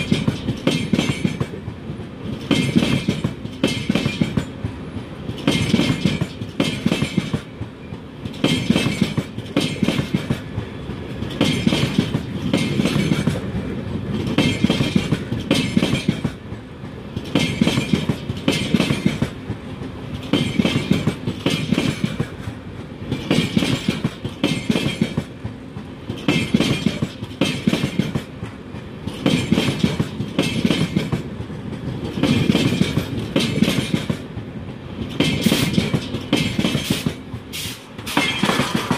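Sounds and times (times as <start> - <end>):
train coaches rumbling past: 0.0 - 38.9
wheels clickety-clack over rail joints: 0.0 - 38.9.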